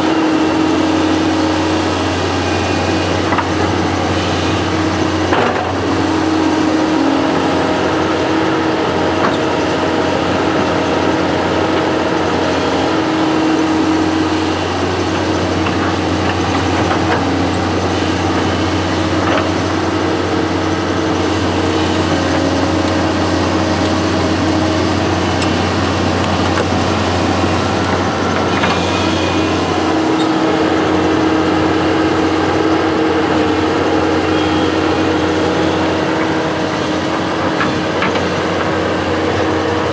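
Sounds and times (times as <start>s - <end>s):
construction machine engine running: 0.0s - 39.9s.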